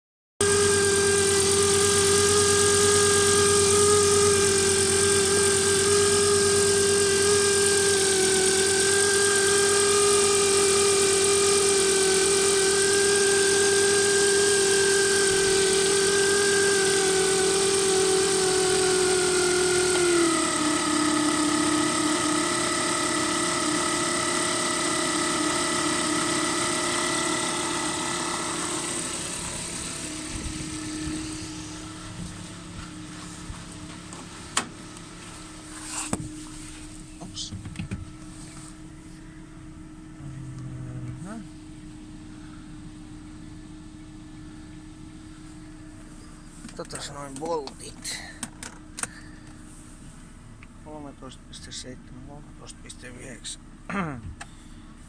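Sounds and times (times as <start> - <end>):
alternator whine: 0.4 - 55.0
car engine running: 0.4 - 55.0.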